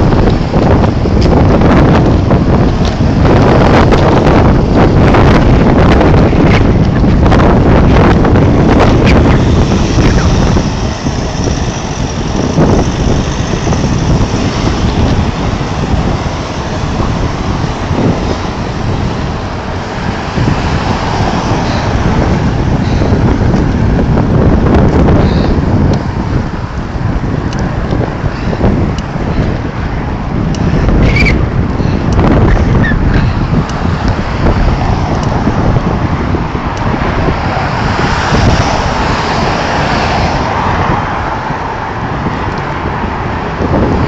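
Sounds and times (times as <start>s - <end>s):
road traffic noise: 0.0s - 44.0s
wind buffeting microphone: 0.0s - 44.0s.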